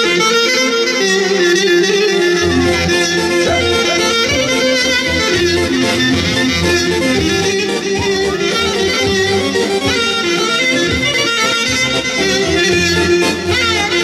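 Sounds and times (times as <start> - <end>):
instrumental folk dance music: 0.0 - 14.0.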